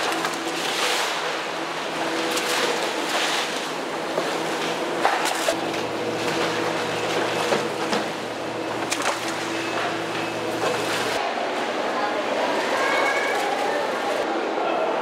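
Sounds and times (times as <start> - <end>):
crane mechanical hum: 0.0 - 15.0.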